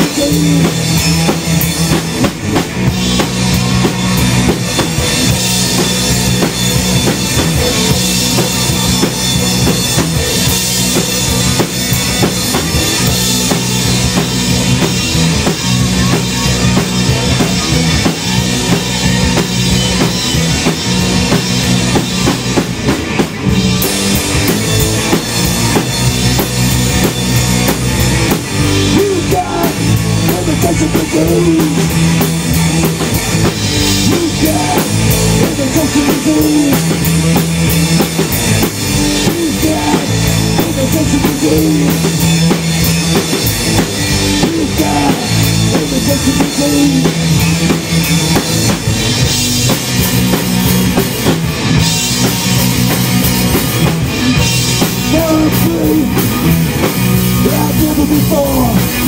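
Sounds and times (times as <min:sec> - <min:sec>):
bass guitar riff: 0:00.0 - 0:59.0
rock band playing: 0:00.0 - 0:59.0.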